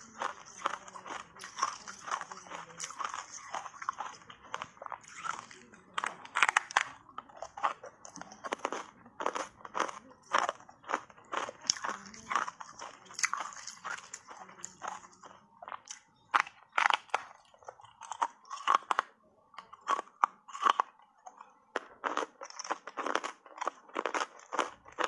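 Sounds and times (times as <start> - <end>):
ice being crunched by teeth: 0.0 - 15.2, 15.8 - 19.1, 21.8 - 25.0.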